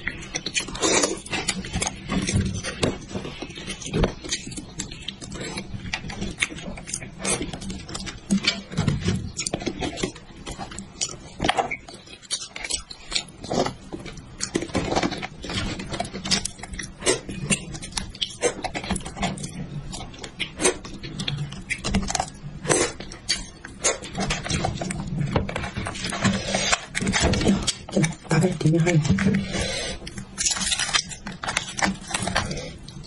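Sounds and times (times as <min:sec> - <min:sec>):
sticky clicks and crackles of meat: 0:00.0 - 0:33.0
wet chewing and lip-smacking: 0:00.0 - 0:33.0.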